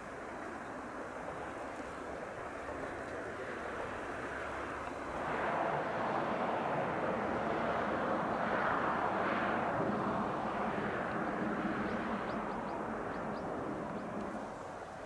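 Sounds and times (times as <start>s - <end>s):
train crossing steel bridge: 0.7s - 15.0s
distant diesel train rumbling: 2.3s - 15.0s.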